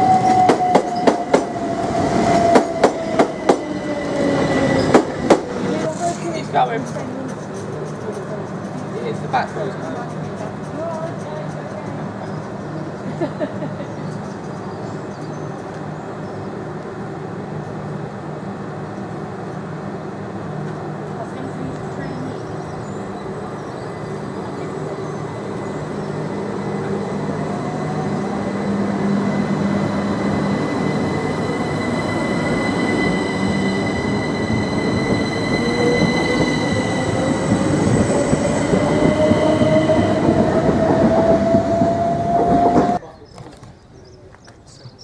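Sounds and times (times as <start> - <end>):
wheel and rail rumble: 0.0 - 45.0.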